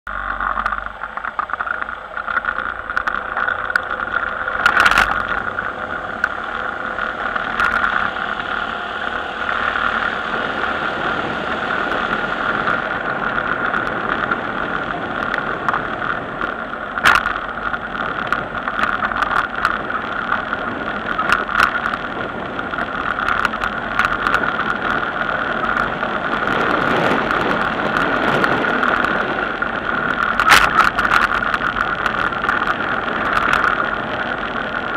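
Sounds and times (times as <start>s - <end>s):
vehicle driving on rough road: 0.0s - 34.9s
clicks and knocks over bumps: 0.1s - 34.9s.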